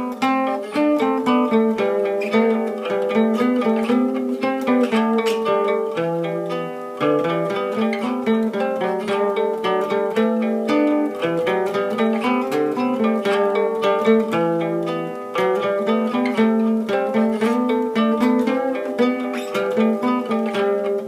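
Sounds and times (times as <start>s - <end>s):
acoustic guitar picked with plectrum: 0.0s - 21.0s.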